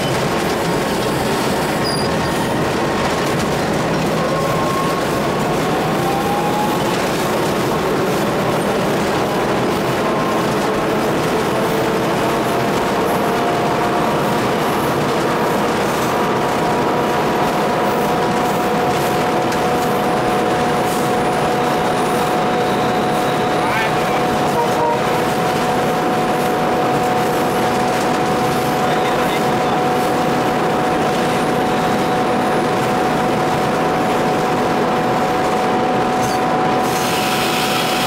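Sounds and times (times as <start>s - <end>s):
locomotive engine and rail drone: 0.0s - 38.0s.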